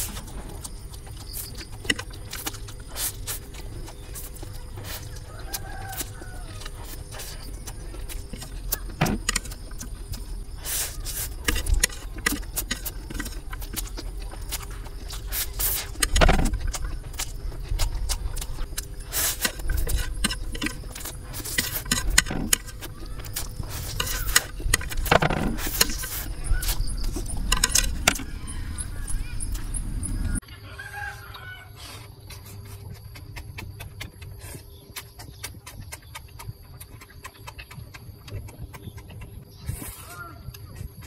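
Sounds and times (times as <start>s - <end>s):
chewing: 0.0s - 30.4s, 31.3s - 41.0s.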